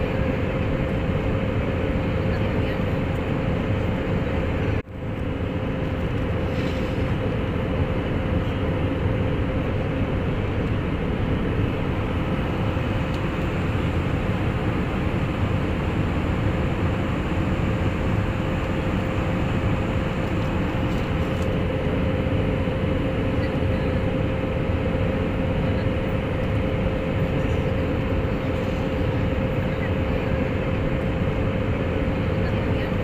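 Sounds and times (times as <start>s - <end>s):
jet cabin engine hum: 0.0s - 33.0s.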